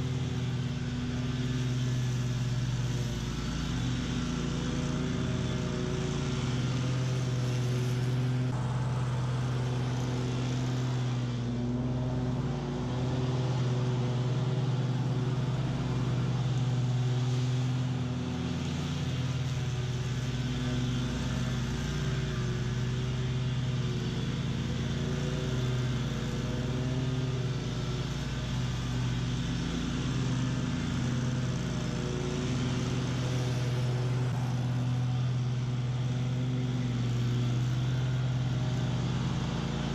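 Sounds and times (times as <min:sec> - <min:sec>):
mower engine and blades droning: 0:00.0 - 0:39.9.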